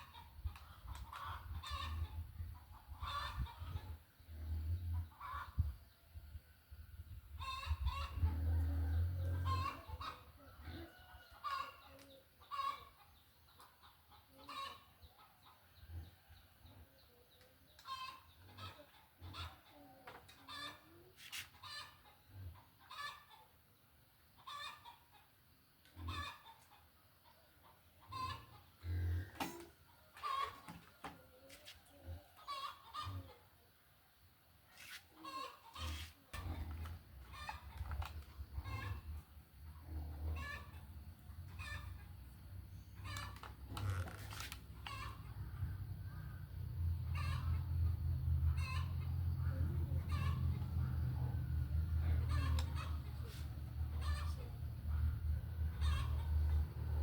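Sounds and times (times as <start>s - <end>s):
chickens clucking: 0.0s - 5.9s, 7.3s - 57.0s.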